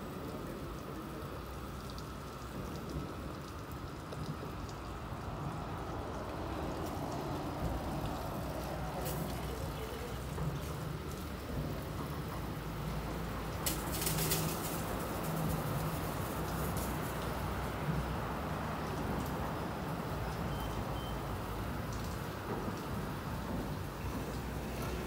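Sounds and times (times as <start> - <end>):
water spraying and dripping: 0.0 - 25.0.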